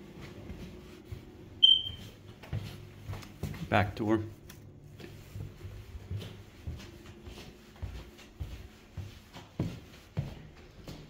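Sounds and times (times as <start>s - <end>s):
footsteps on tiled floor: 0.0s - 11.0s.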